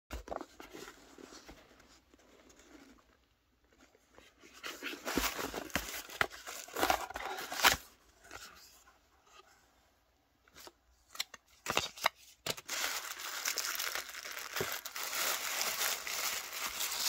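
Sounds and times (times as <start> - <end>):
cardboard and paper rustling: 0.1 - 9.4, 11.5 - 17.0.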